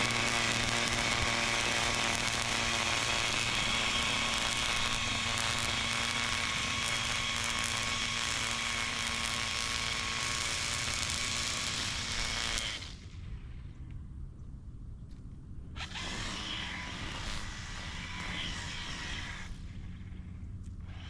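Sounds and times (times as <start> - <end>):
electric mower high whine: 0.0 - 13.5, 15.8 - 21.0.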